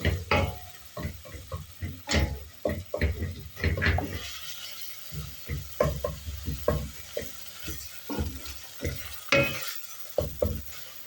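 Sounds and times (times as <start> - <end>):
spoon scraping a pot: 0.0 - 11.0
vegetables sizzling in oil: 0.0 - 11.0.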